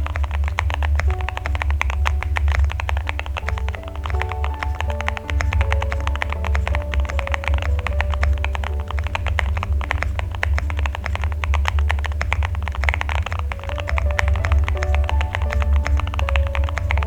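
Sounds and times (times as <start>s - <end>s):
fast mechanical keyboard typing: 0.0s - 17.0s.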